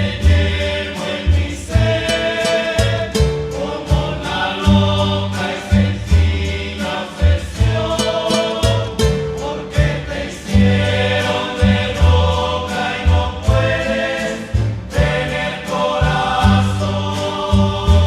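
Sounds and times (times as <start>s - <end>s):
bass line: 0.0s - 18.0s
guitars playing: 0.0s - 18.0s
wordless choir-like voices: 0.0s - 18.0s.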